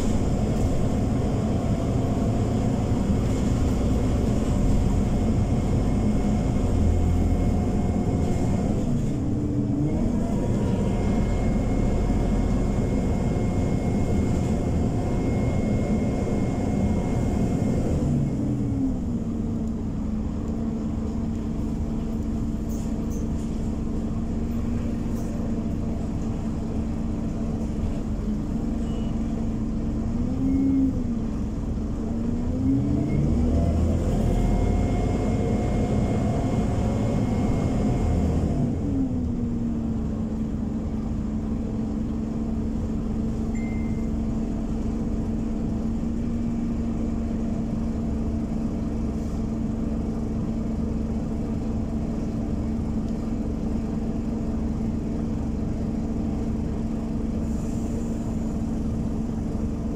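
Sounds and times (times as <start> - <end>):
bus diesel engine: 0.0 - 59.9
faint high engine whine: 0.0 - 59.9.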